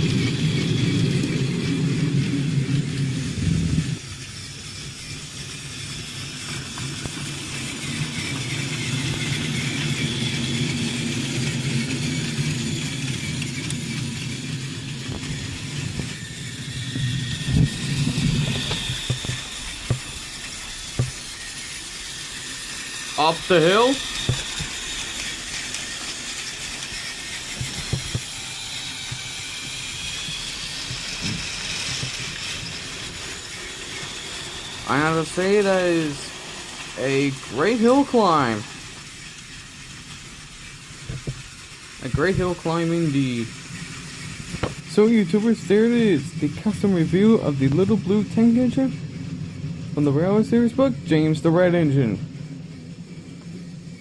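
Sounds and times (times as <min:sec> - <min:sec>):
toy train motor whirring: 0:00.0 - 0:54.0.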